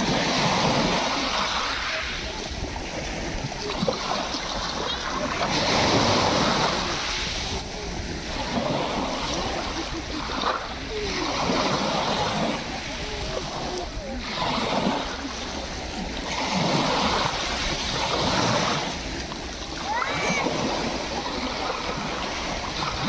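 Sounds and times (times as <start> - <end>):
waves breaking on pebble beach: 0.0 - 23.0.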